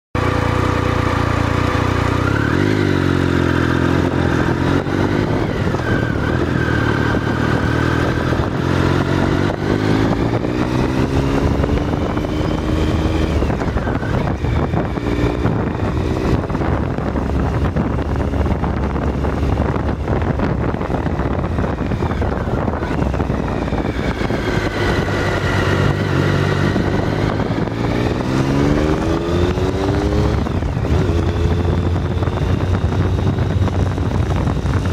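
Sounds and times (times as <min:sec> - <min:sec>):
motorcycle engine accelerating: 0:00.2 - 0:34.9
wind and road noise: 0:00.2 - 0:34.9.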